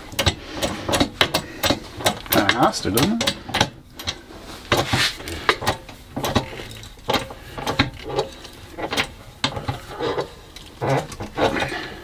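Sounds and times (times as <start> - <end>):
shop press clacking: 0.0 - 10.3.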